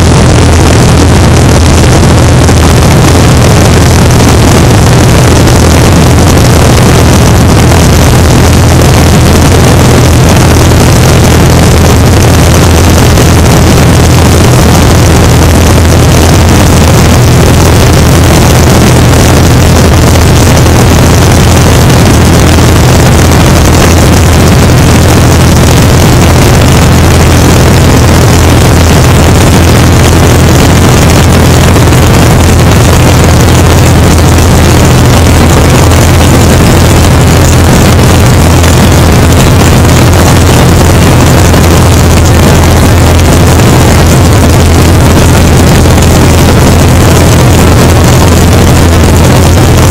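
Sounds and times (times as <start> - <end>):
propeller engine drone: 0.0 - 49.9
rushing air: 0.0 - 49.9.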